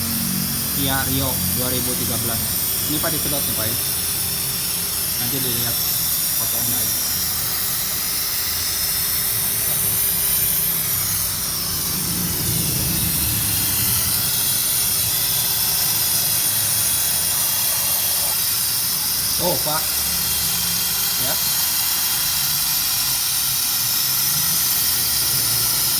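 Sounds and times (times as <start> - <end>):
high hiss of fluid intake: 0.0 - 25.9.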